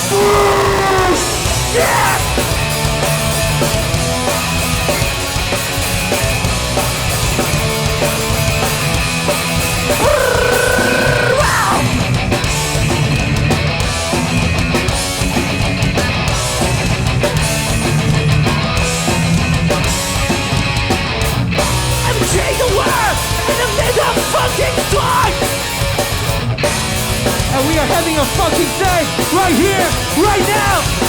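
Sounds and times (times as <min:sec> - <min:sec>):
punk band playing live: 0:00.0 - 0:31.0.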